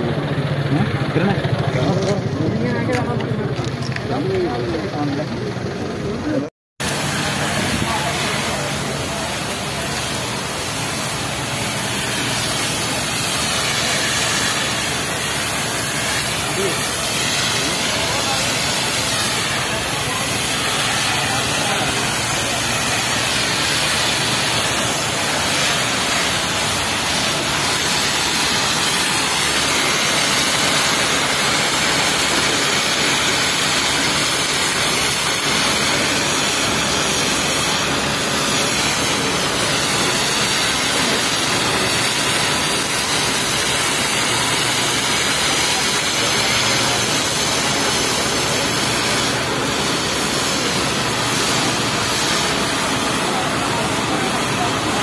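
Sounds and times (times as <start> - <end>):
fire hose spraying water on road: 0.1 - 55.0.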